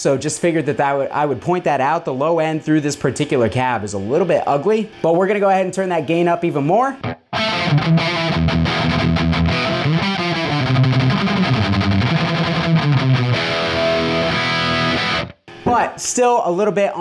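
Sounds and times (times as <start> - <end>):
distorted electric guitar riff: 3.3 - 17.0.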